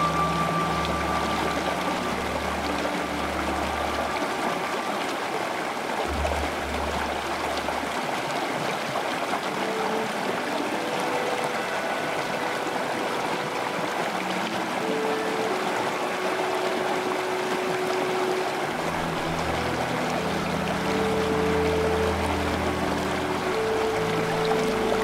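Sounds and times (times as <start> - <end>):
running water: 0.0 - 25.0
soft ambient music: 0.0 - 25.0.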